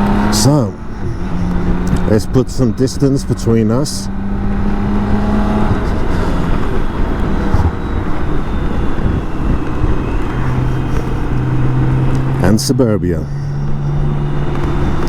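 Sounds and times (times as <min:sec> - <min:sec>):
wind rush on microphone: 0:00.0 - 0:12.4
motorcycle engine pulling away: 0:00.0 - 0:12.6, 0:13.4 - 0:15.0.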